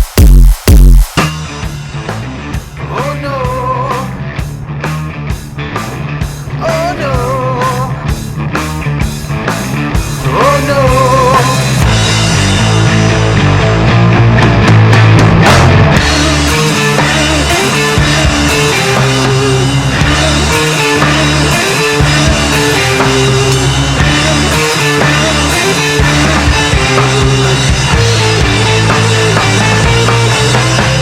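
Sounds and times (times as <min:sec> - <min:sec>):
distorted rock band: 0:00.0 - 0:31.0.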